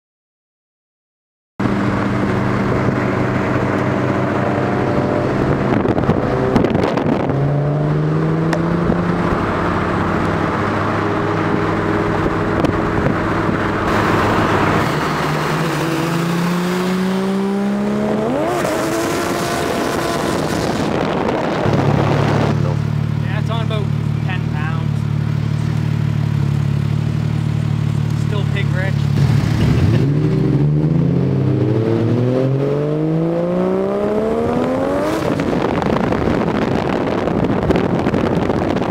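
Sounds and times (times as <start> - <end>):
car engine running: 1.6 - 38.9.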